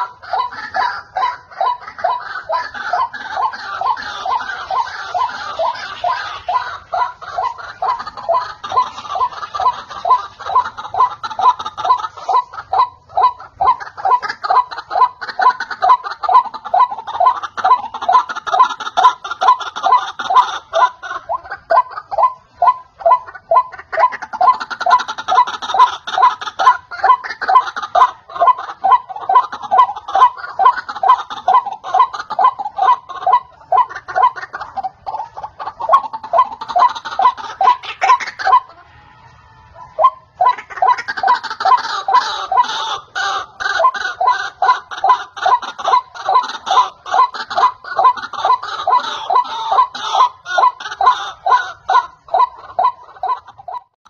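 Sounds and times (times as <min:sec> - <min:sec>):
higher busier bird calling: 0:00.0 - 0:54.0
waterhen calling: 0:00.0 - 0:54.0.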